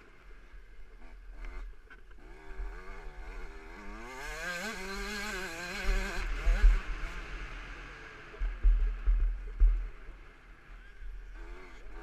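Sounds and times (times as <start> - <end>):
two-stroke motorbike engine revving: 0.9 - 10.2, 11.2 - 12.0.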